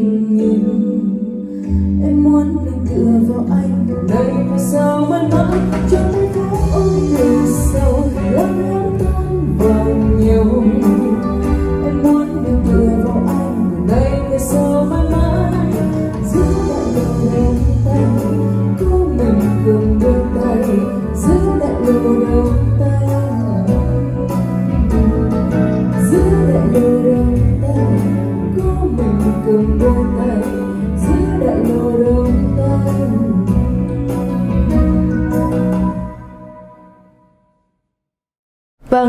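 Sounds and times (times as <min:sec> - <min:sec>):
woman singing into a microphone: 0:00.0 - 0:34.8
backing track with bass line: 0:01.7 - 0:36.9.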